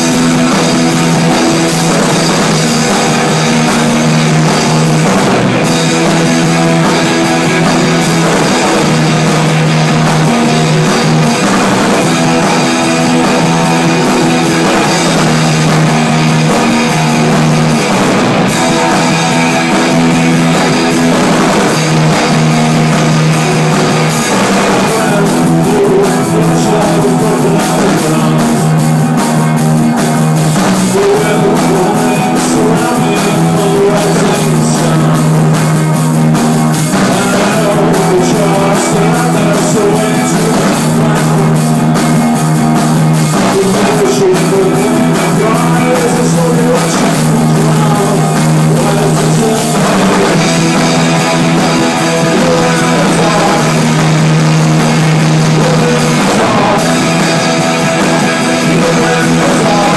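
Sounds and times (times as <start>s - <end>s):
distorted electric guitars: 0.0s - 59.9s
drum kit with cymbals: 0.0s - 59.9s.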